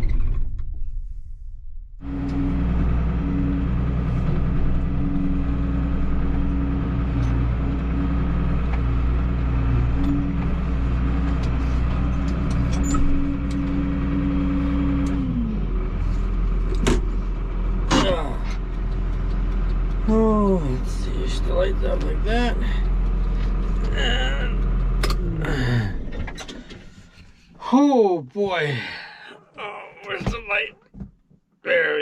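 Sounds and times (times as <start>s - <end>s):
diesel engine running: 1.9s - 27.8s.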